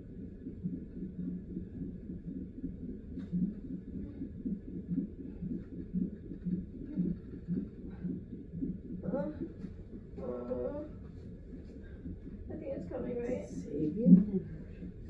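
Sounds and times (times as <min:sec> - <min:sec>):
fetal heartbeat on monitor: 0:00.0 - 0:15.0.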